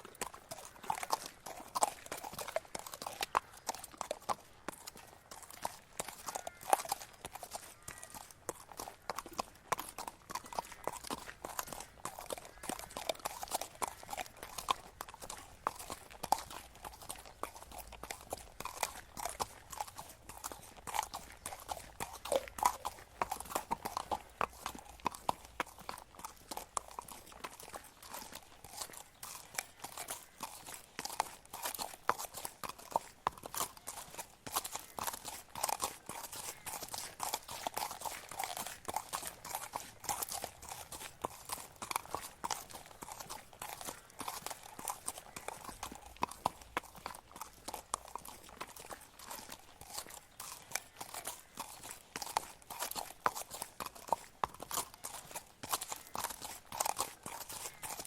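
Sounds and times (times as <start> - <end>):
horse hooves on gravel: 0.0 - 58.0.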